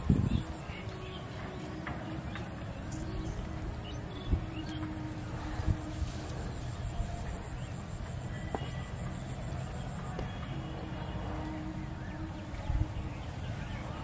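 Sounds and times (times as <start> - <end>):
faint steady hum: 0.0 - 14.0
low outdoor rumble: 0.0 - 14.0.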